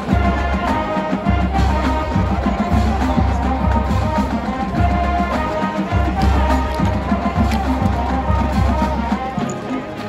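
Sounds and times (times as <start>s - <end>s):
marching band playing: 0.0s - 10.0s.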